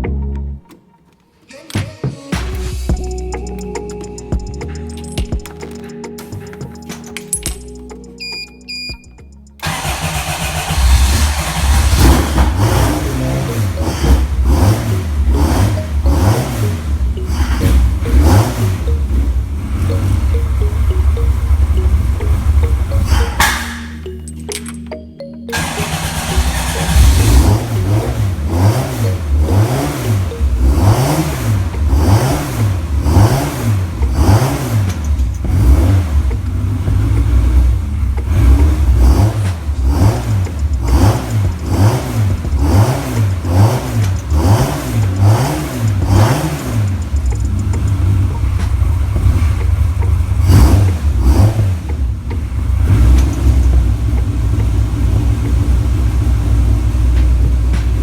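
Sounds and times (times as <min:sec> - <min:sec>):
car engine revving: 0:09.6 - 0:24.0, 0:25.5 - 0:58.0.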